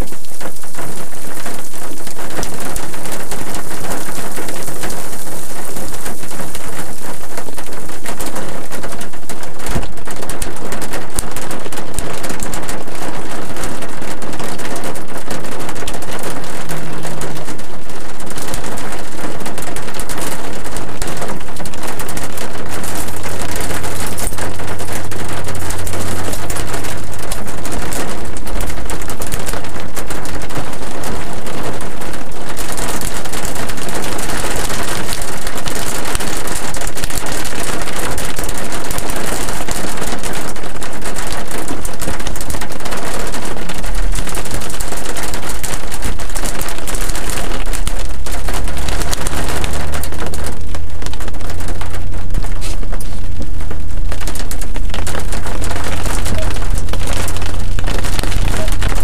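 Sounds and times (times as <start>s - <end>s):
rain pelting car roof: 0.0s - 59.0s.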